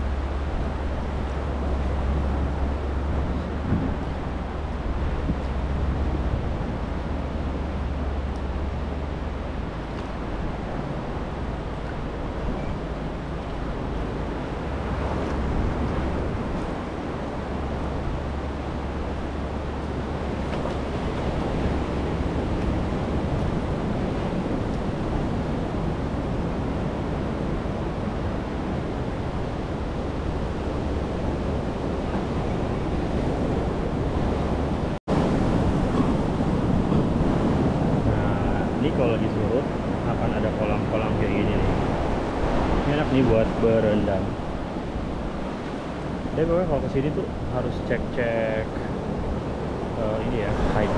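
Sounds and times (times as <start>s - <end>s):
small waves washing on beach: 0.0s - 50.9s
wind rumbling on microphone: 0.0s - 50.9s.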